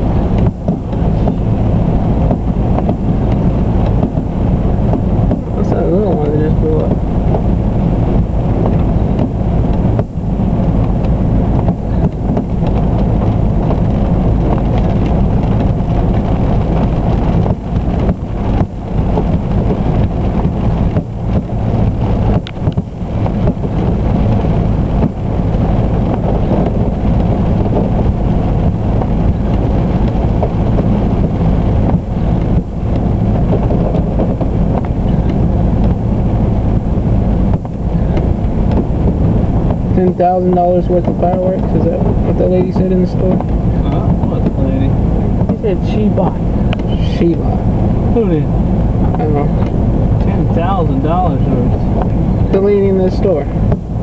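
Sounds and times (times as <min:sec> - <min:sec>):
low steady hum: 0:00.0 - 0:54.0
wind buffeting microphone: 0:00.0 - 0:54.0.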